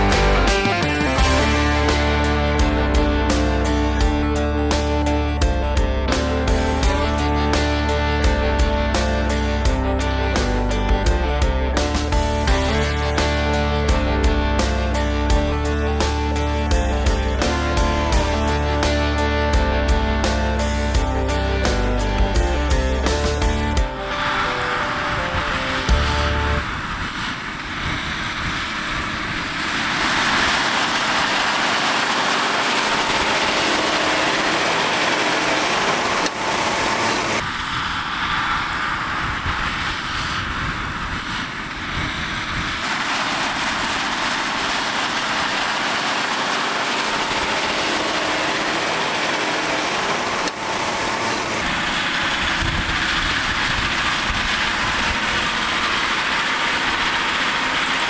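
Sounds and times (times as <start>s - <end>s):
diesel engine under load: 0.0s - 39.8s, 40.7s - 58.0s.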